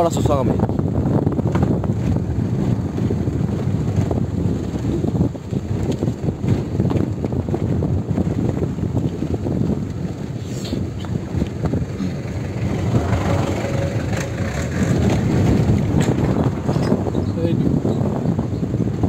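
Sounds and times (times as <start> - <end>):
car road and engine noise: 0.0 - 19.0
wind buffeting microphone: 0.0 - 19.0.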